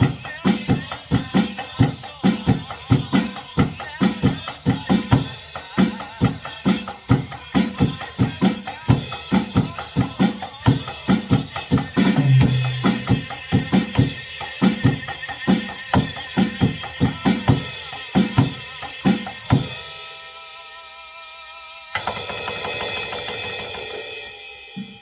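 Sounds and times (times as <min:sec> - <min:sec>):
drum kit playing: 0:00.0 - 0:20.1, 0:22.0 - 0:25.0
recorded pop song: 0:00.0 - 0:25.0.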